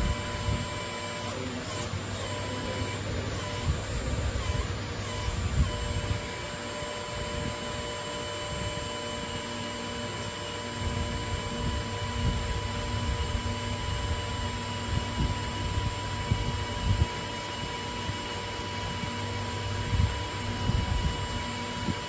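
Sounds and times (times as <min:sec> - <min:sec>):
electric pump motor whining: 0:00.0 - 0:22.0.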